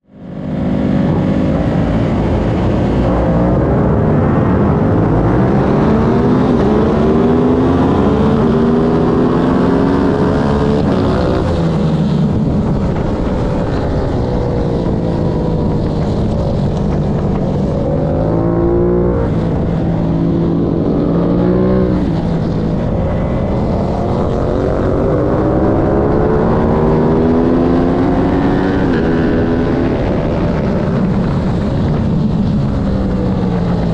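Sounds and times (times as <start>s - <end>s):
racing motorcycle engine: 0.0s - 33.9s
wind and road noise: 0.0s - 33.9s.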